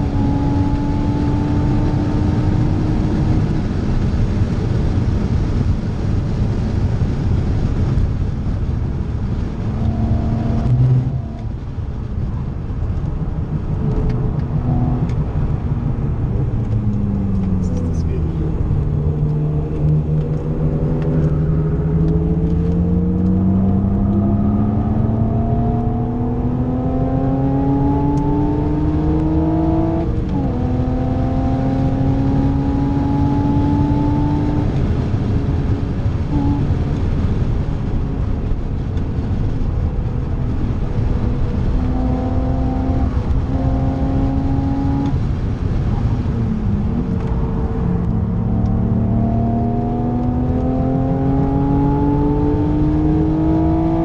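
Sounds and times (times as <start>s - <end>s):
car engine accelerating: 0.0s - 54.0s
tyre and road noise: 0.0s - 54.0s.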